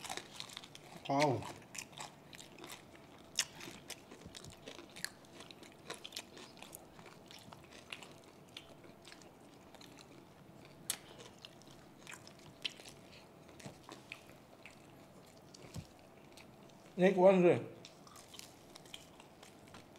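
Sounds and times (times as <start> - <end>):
chewing crispy food crunches: 0.0 - 17.0, 17.8 - 19.9.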